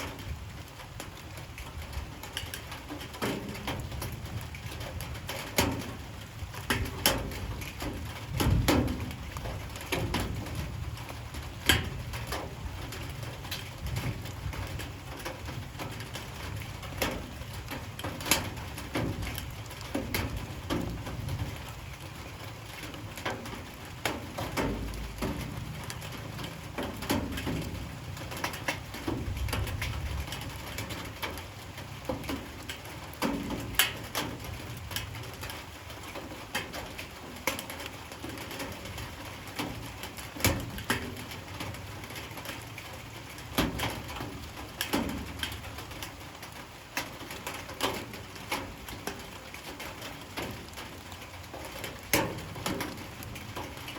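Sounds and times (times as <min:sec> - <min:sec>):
light rain pattering: 0:00.0 - 0:53.9.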